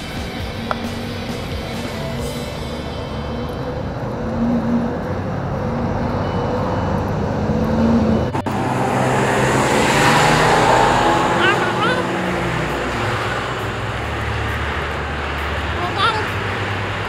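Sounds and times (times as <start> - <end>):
road traffic: 0.0 - 17.0
vehicle passing close: 0.0 - 17.0.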